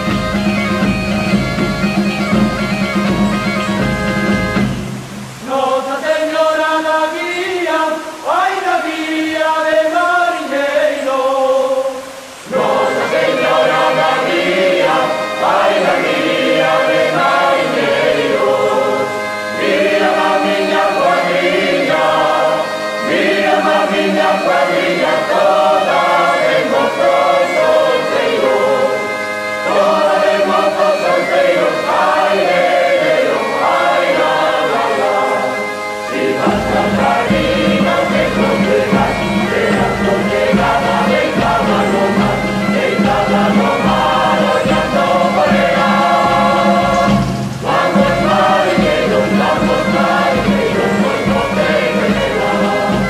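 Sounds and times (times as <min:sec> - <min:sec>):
choir singing: 0:05.4 - 0:53.0.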